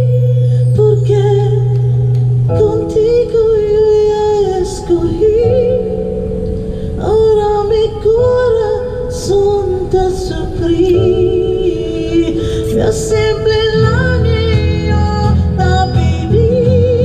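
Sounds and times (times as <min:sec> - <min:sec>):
backing music: 0:00.0 - 0:17.0
woman singing slow song: 0:00.0 - 0:17.0.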